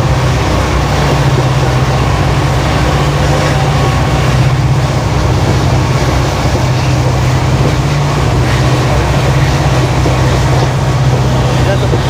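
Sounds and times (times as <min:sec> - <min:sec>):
diesel locomotive engine humming: 0:00.0 - 0:12.0
train running noise: 0:00.0 - 0:12.0.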